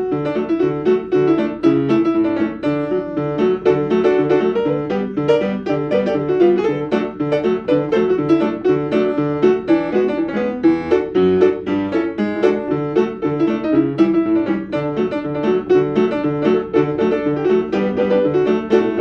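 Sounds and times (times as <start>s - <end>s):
piano tune: 0.0s - 19.0s.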